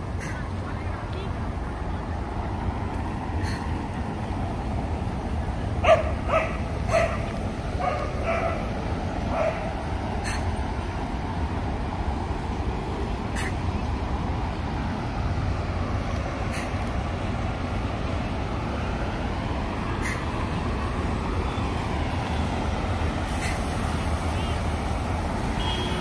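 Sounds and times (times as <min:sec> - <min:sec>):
rumble of traffic: 0:00.0 - 0:26.0.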